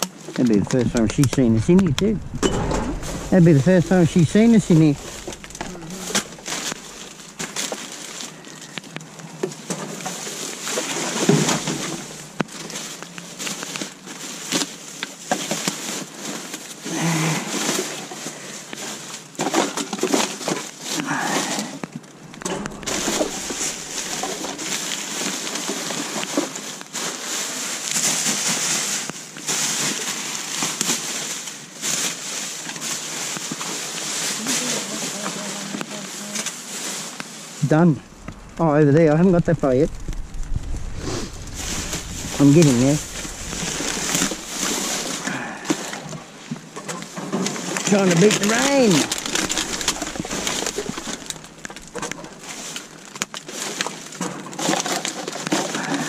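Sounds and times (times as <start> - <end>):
bags rustling in a dumpster: 0.0 - 56.0.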